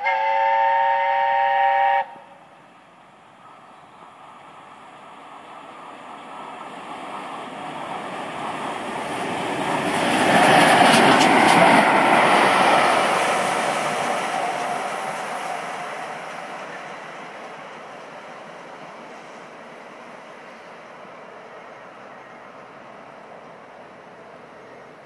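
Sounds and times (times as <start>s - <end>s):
steam train passing: 0.0s - 25.0s.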